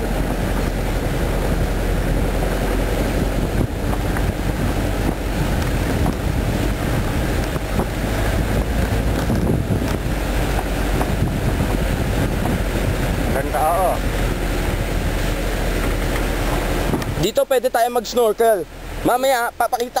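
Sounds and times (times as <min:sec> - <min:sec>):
wind on microphone: 0:00.0 - 0:17.3
moving vehicle running: 0:00.0 - 0:19.9.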